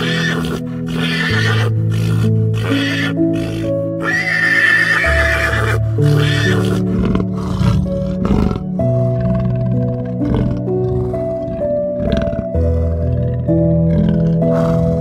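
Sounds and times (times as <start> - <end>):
rough pulsing animal growl: 0.0 - 3.7, 5.6 - 15.0
background music with held notes: 0.0 - 15.0
horse whinnying: 0.0 - 15.0.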